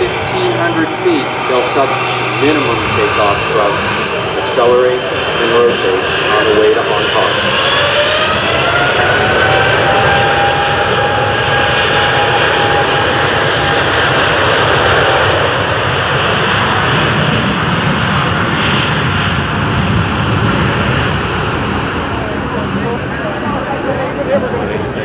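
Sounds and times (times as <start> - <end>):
high engine whine: 0.0 - 25.0
jet engine roar: 0.0 - 25.0.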